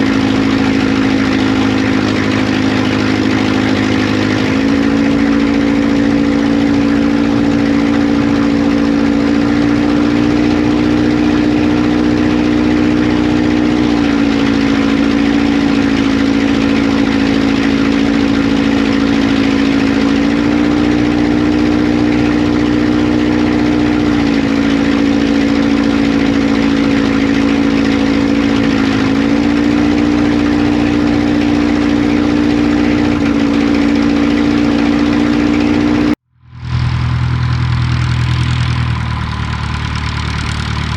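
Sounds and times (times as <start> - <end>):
light aircraft engine and propeller: 0.0 - 40.9.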